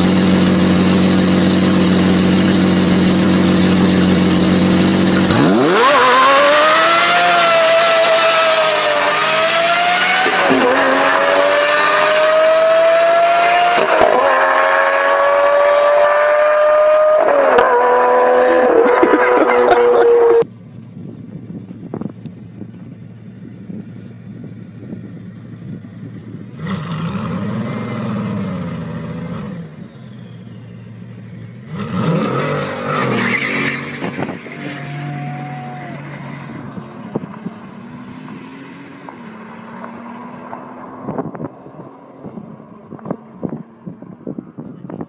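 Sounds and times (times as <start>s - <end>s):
car engine revving and accelerating: 0.0s - 20.5s, 26.5s - 30.4s, 31.3s - 44.2s.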